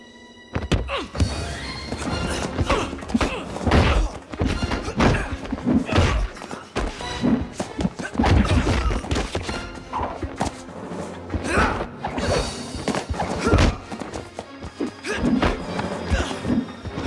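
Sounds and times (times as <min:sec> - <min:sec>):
action score music: 0:00.0 - 0:17.0.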